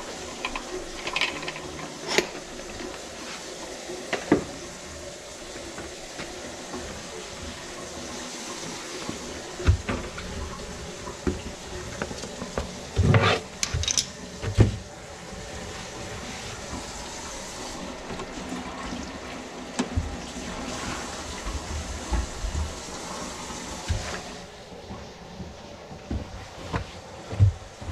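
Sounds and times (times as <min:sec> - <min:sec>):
water running and draining: 0:00.0 - 0:27.9.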